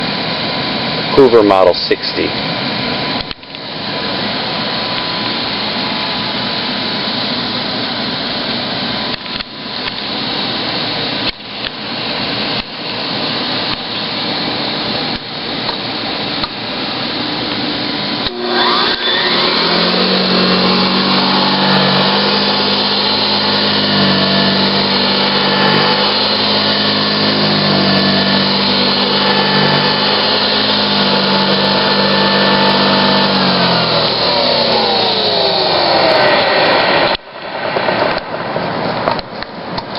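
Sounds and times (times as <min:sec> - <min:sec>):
vacuum cleaner whirring: 0:02.4 - 0:38.2.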